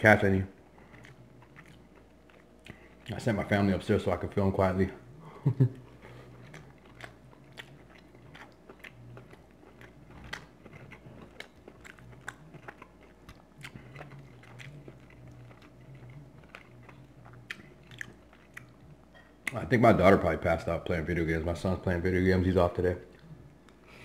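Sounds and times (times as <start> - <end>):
person chewing food: 0.2 - 20.2, 23.1 - 24.0.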